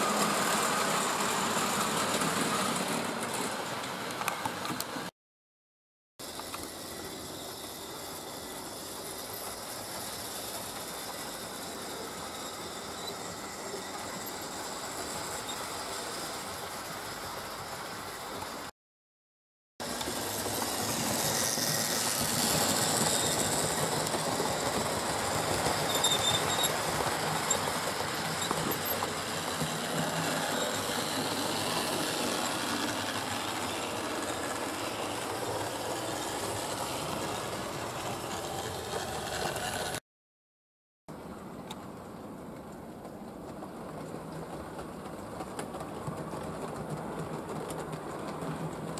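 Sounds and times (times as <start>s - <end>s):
model trains running on rails: 0.0s - 5.1s, 6.2s - 18.7s, 19.8s - 40.0s, 41.1s - 48.9s.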